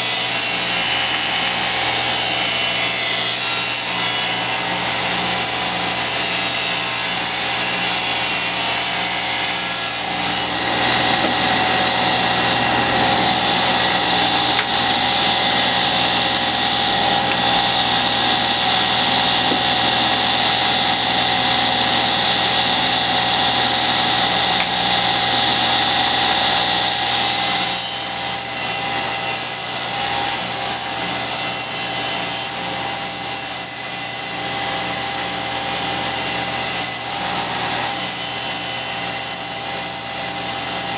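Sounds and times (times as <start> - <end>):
table saw ripping wood: 0.0 - 40.9.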